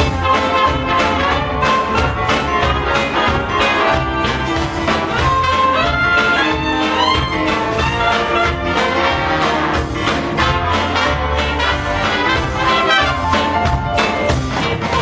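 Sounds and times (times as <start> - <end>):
brass band instrumental music: 0.0 - 15.0.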